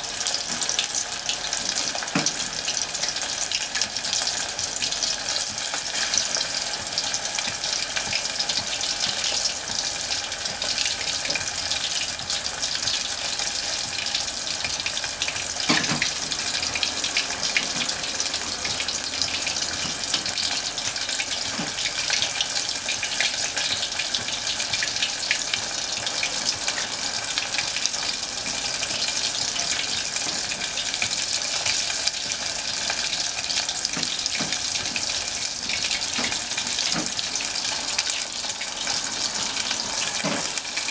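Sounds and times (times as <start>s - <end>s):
meat sizzling in hot oil: 0.0s - 40.9s.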